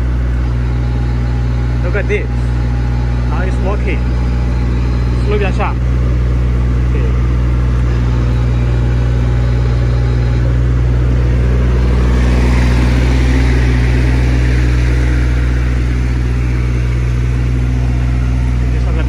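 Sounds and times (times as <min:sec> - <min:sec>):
excavator diesel engine: 0:00.0 - 0:19.0
hydraulic and track noise: 0:00.0 - 0:19.0.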